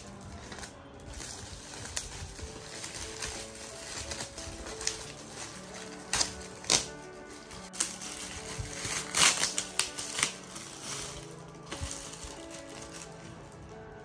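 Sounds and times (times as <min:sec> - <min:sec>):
background music with held tones: 0:00.0 - 0:14.0
gift packaging crinkling: 0:00.0 - 0:14.0.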